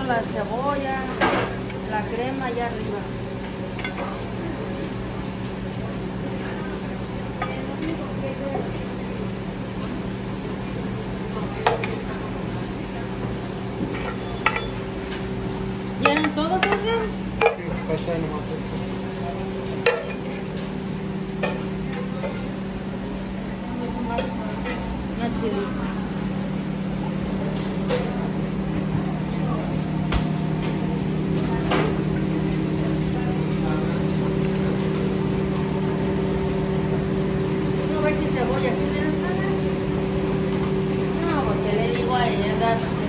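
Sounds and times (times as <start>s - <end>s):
food sizzling in a frying pan: 0.0s - 43.0s
kitchen equipment humming: 0.0s - 43.0s.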